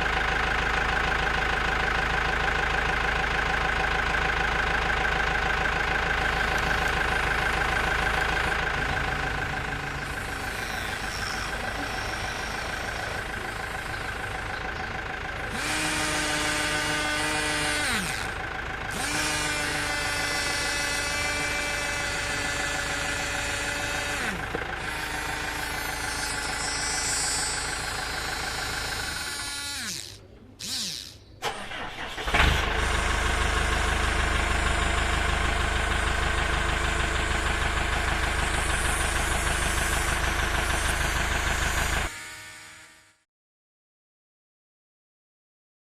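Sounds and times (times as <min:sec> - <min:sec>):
motor running steadily: 0:00.0 - 0:31.3, 0:32.2 - 0:43.3.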